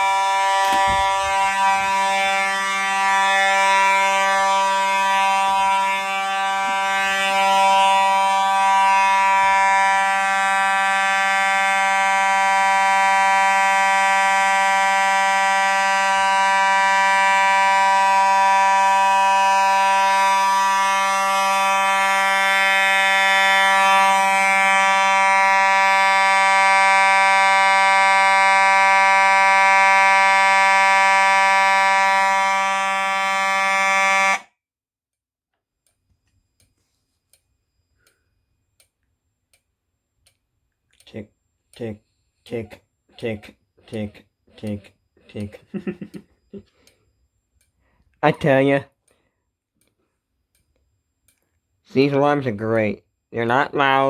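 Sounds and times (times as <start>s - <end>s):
fire alarm horns steady tone: 0.0s - 34.5s, 36.3s - 39.6s, 41.0s - 54.0s.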